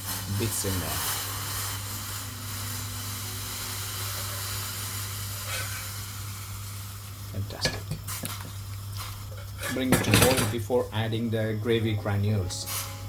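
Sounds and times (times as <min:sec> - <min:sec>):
stock hissing in hot pan: 0:00.0 - 0:11.2, 0:12.4 - 0:13.0.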